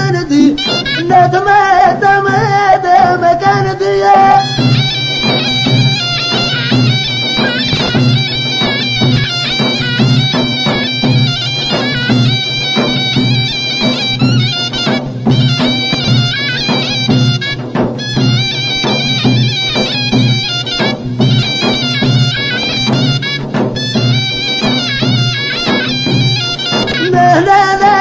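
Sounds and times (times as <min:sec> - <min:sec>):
bagpipe reedy melody: 0:00.0 - 0:03.1, 0:03.9 - 0:28.0
hand drum beats: 0:00.0 - 0:28.0.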